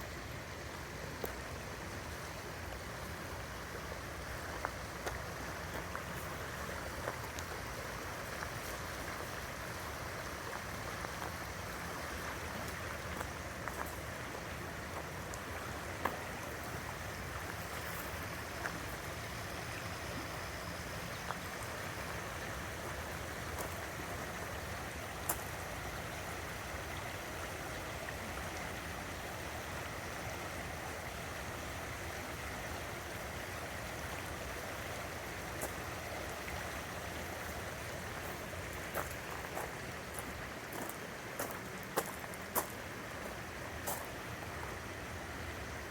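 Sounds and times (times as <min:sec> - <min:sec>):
river water running: 0:00.0 - 0:45.9.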